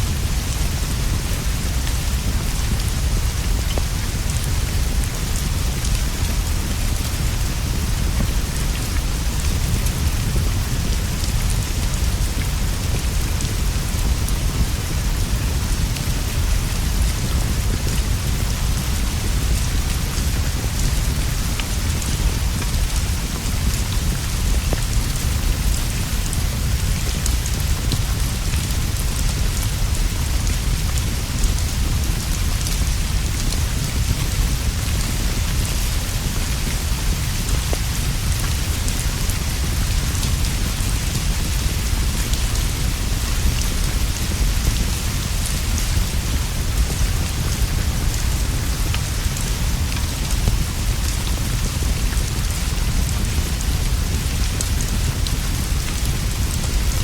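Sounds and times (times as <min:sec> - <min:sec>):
heavy rain on leaves and roof: 0:00.0 - 0:57.0
small ticks and drips: 0:00.4 - 0:56.8.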